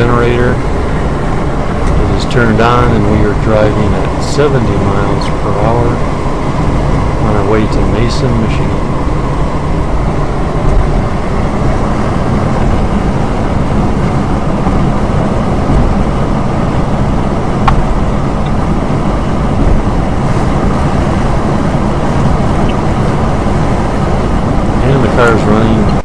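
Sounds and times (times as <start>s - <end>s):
car cabin road noise: 0.0s - 26.0s.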